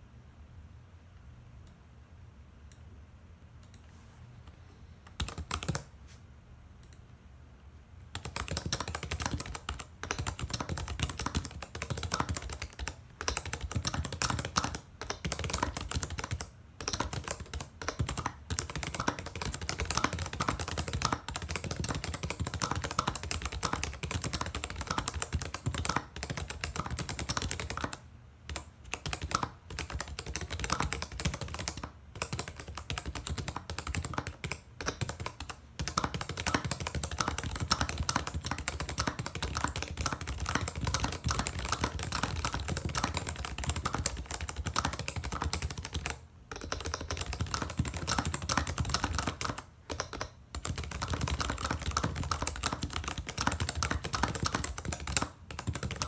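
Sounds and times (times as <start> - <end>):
fast keyboard typing: 5.1 - 5.9, 8.1 - 56.0.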